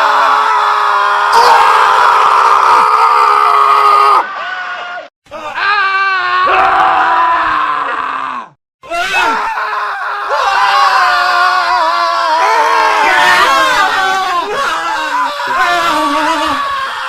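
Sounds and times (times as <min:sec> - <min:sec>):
men screaming: 0:00.0 - 0:17.0.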